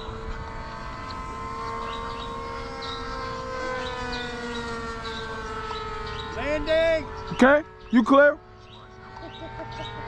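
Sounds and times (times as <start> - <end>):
model airplane engine whine: 0.0 - 10.0.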